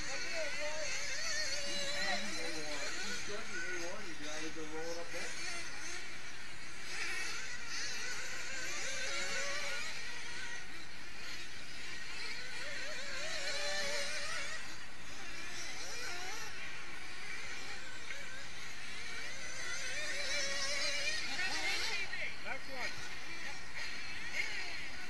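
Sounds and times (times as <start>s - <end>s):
model car engines buzzing: 0.0s - 25.0s.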